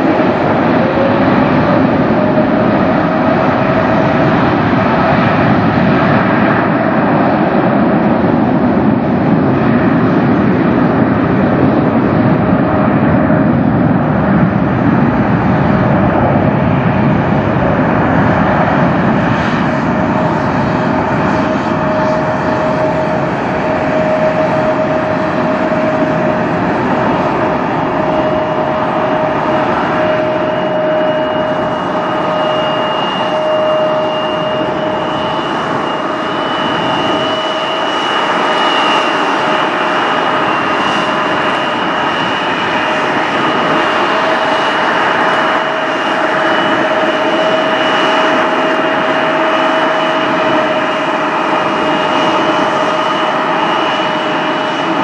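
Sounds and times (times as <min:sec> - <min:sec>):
higher jet engine whine: 0:00.0 - 0:55.0
jet engine whine: 0:00.0 - 0:55.0
jet engines roaring: 0:00.0 - 0:55.0.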